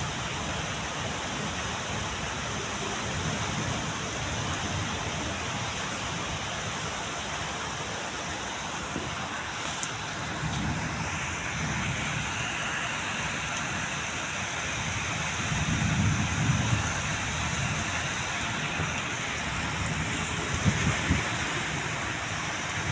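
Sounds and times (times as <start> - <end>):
steady rain: 0.0 - 22.9.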